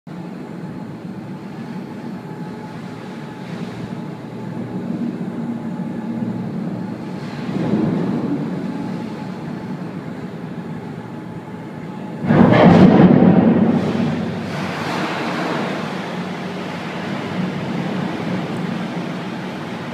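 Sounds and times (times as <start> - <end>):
ferry engine rumble: 0.1 - 19.9
wind: 0.1 - 19.9
sea noise: 0.2 - 19.9.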